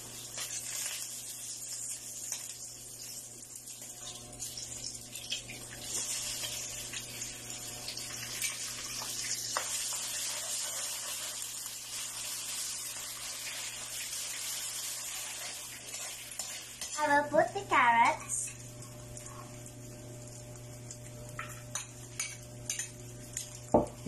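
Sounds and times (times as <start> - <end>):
eggs sizzling in hot oil: 0.0 - 24.0.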